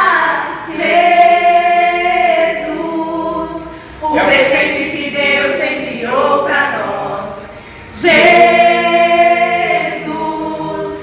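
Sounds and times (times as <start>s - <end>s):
choir singing sustained notes: 0.0s - 11.0s.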